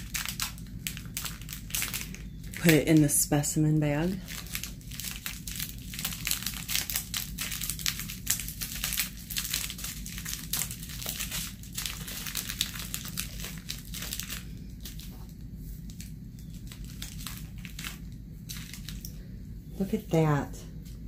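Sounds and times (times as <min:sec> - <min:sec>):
plastic bag crinkling: 0:00.0 - 0:20.1.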